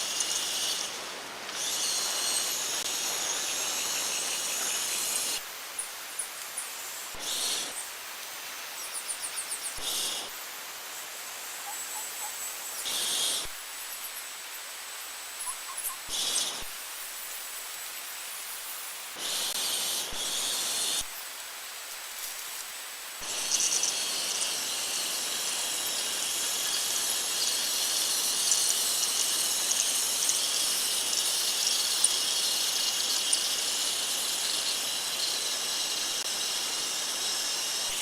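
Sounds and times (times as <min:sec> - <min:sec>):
high-pitched hiss: 0:00.0 - 0:38.0.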